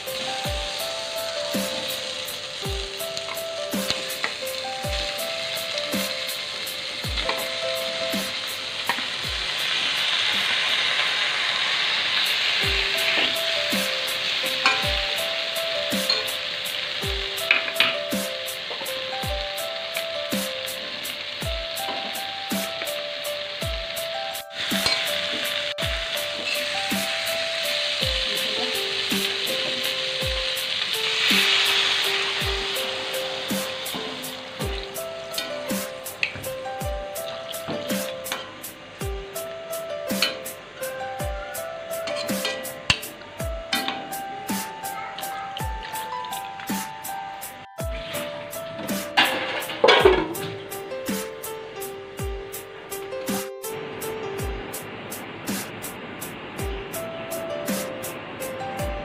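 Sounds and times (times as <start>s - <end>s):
fish sizzling in hot oil: 0.0s - 53.4s
background music with steady beat: 0.0s - 59.0s.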